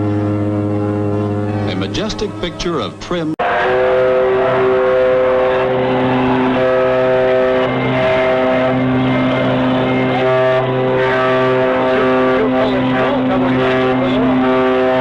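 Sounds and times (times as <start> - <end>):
deep ship steam whistle blasts: 0.0 - 2.4, 3.4 - 15.0.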